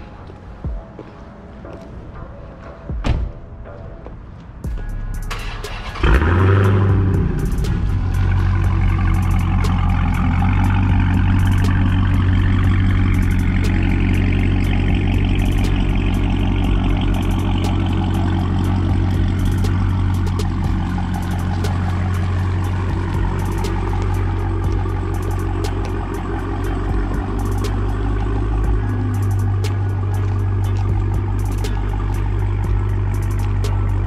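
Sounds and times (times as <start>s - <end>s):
car engine idle burble: 4.7s - 34.0s.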